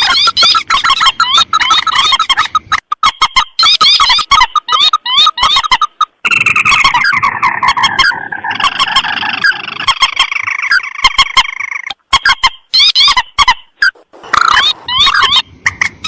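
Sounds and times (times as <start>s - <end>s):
birds chattering calls: 0.0s - 16.0s.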